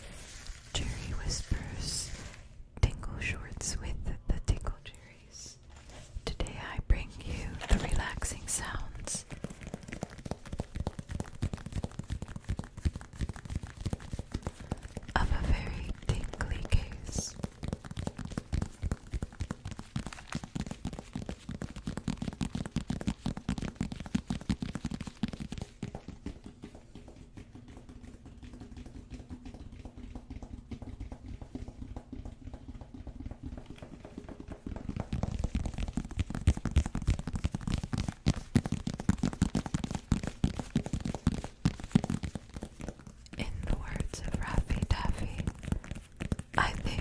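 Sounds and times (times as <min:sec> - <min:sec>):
tapping and scratching on a case: 0:07.4 - 0:47.0.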